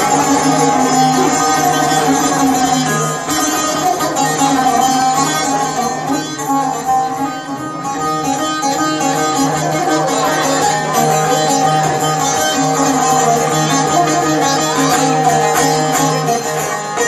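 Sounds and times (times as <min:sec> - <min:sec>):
plucked long-necked lute melody: 0:00.0 - 0:17.0.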